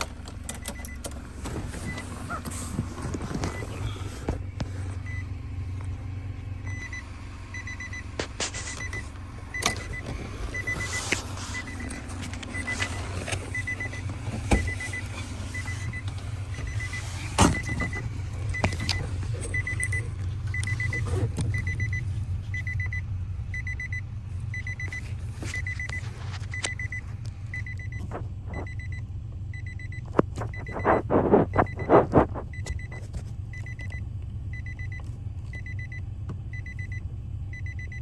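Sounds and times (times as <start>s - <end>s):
car warning chime beeping: 0.0s - 38.0s
steady low hum: 0.0s - 38.0s.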